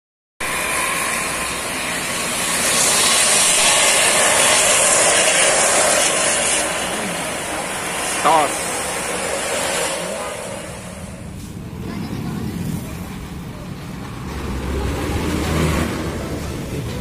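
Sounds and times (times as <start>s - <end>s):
traffic on flooded road: 0.4s - 17.0s.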